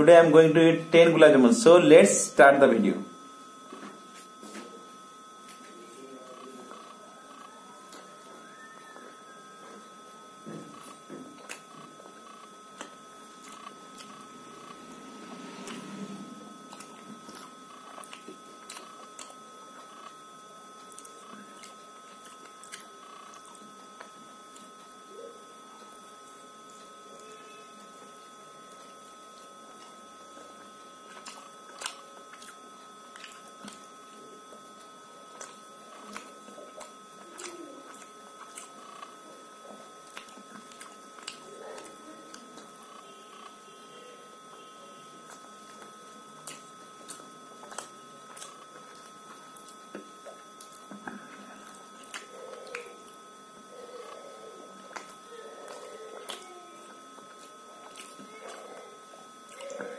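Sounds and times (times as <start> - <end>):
person chewing wet squishing: 6.3 - 43.8, 44.4 - 59.9.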